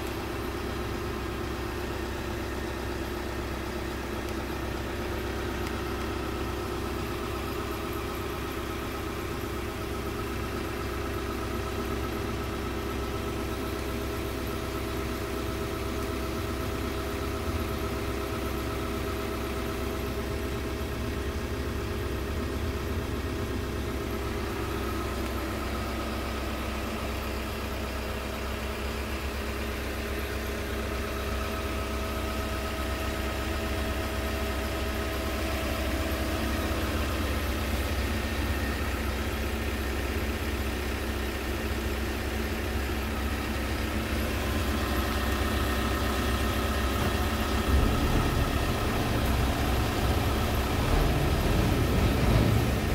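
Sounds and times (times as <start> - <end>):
truck diesel engine idling: 0.0 - 52.9.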